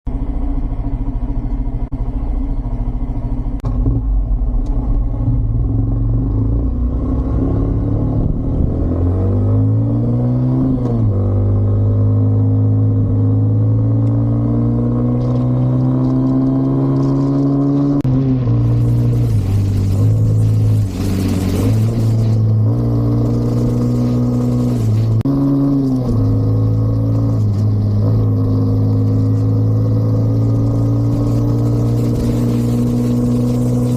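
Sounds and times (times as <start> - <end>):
motorcycle engine accelerating: 0.1 - 33.9.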